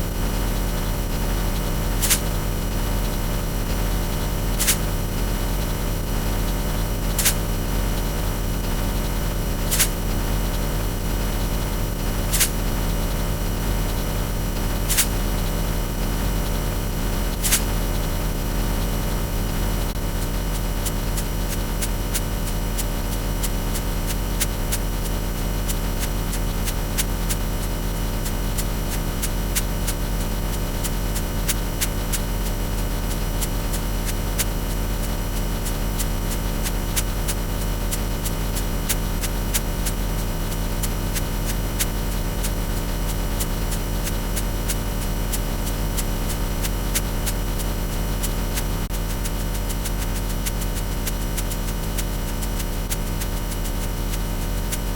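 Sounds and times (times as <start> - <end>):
loud electronic hum with static: 0.0 - 54.9.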